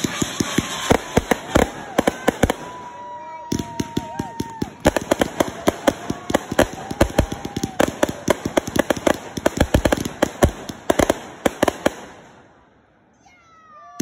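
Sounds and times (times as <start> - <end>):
fireworks bangs and crackles: 0.0 - 12.8.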